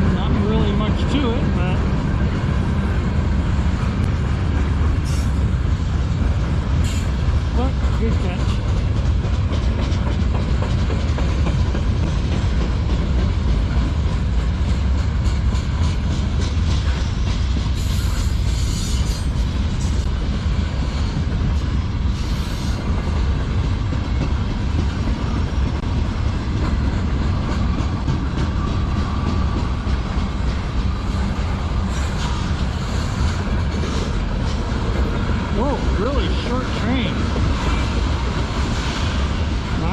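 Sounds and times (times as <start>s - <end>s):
wheels clacking over rail joints: 0.0s - 39.8s
freight train rumbling past: 0.0s - 39.9s.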